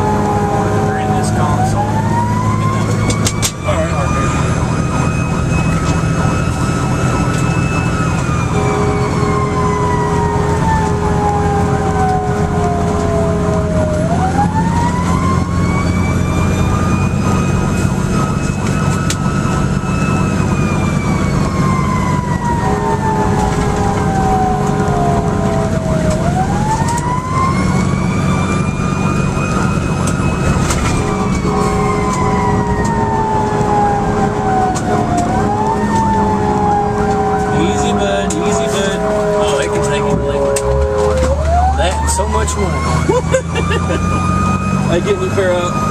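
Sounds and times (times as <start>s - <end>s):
fire engine siren wailing: 0.0s - 45.9s
truck engine drone: 0.0s - 45.9s.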